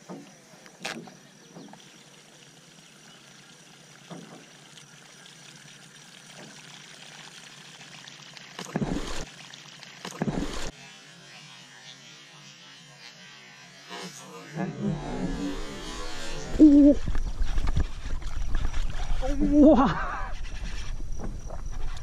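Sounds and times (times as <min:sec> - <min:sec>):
water around a boat: 0:00.0 - 0:14.4, 0:15.0 - 0:22.0.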